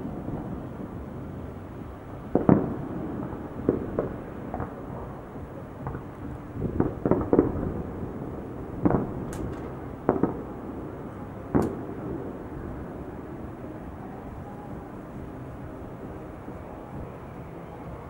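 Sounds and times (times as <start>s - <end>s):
fireworks bursting with bangs: 0.0s - 18.0s.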